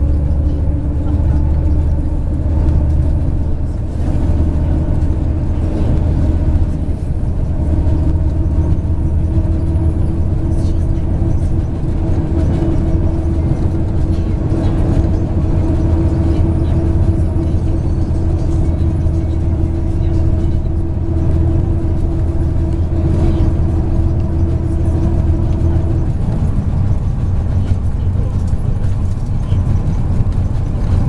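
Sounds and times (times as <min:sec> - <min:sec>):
bus engine and road drone: 0:00.0 - 0:31.0
constant whine: 0:00.0 - 0:31.0.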